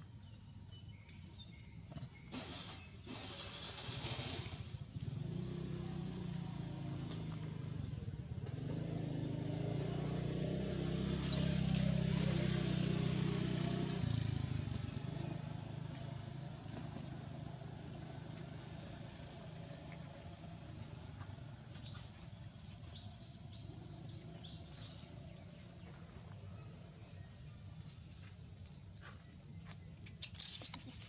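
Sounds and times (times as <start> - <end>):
vehicle engine passing by: 3.8 - 28.9.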